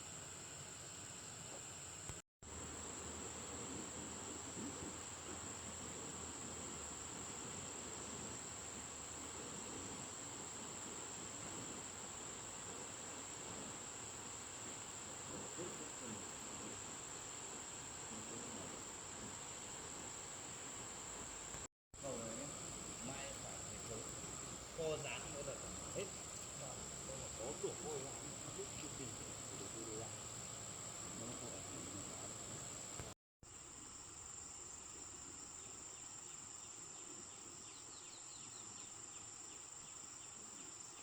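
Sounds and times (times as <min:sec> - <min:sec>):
insect chorus buzzing: 0:00.0 - 0:41.0.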